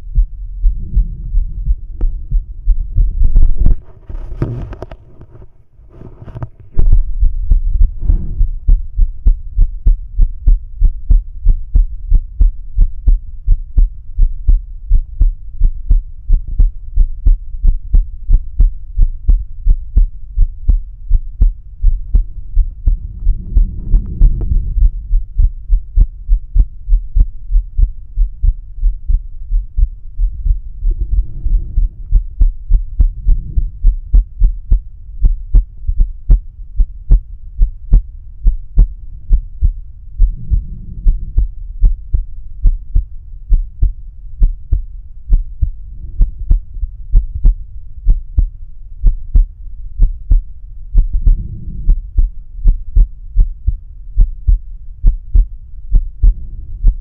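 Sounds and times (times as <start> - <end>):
heartbeat through stethoscope: 0.0 - 5.0, 6.3 - 57.0
low hum: 0.0 - 57.0.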